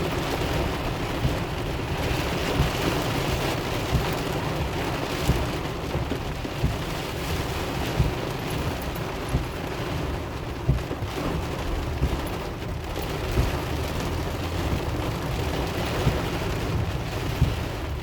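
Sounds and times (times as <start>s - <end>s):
rain on a car: 0.0s - 18.0s
road and engine rumble: 0.0s - 18.0s.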